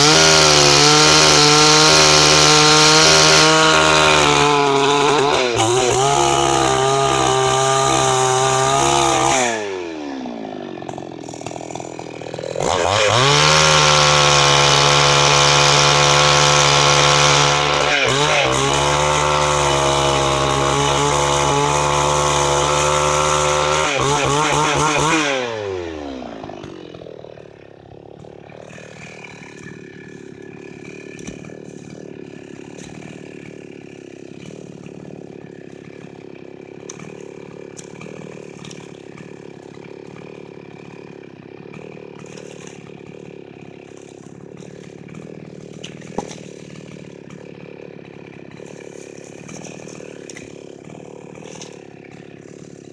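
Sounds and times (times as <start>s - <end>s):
chainsaw running: 0.0s - 52.9s.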